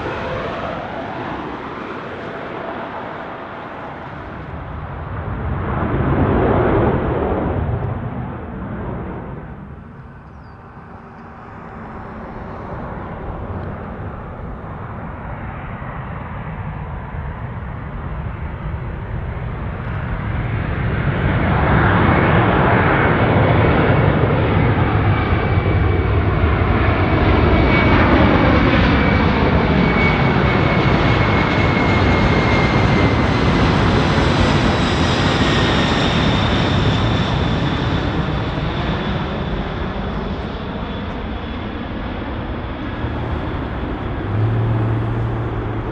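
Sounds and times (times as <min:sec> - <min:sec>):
jet aircraft flying past: 0:00.0 - 0:45.9.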